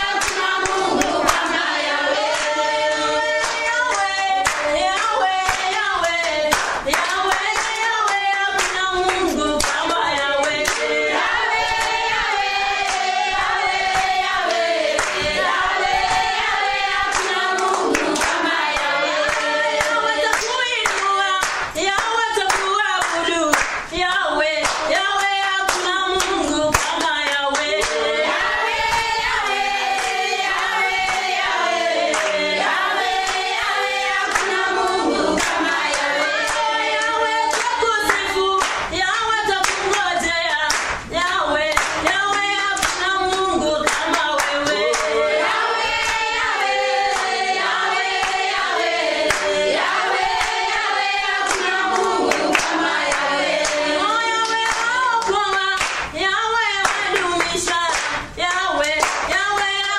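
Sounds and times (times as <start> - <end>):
hand claps: 0.0 - 1.6, 2.2 - 10.9, 11.6 - 16.4, 17.1 - 28.0, 28.8 - 31.5, 32.1 - 34.7, 35.4 - 47.4, 49.3 - 53.8, 54.4 - 56.2, 56.8 - 59.9
group singing a cappella: 0.0 - 59.9.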